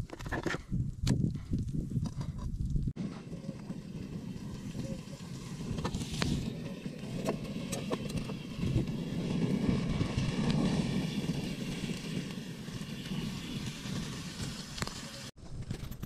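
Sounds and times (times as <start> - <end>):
wind rumble on microphone: 0.0 - 16.0
wood fire crackling: 0.9 - 15.4.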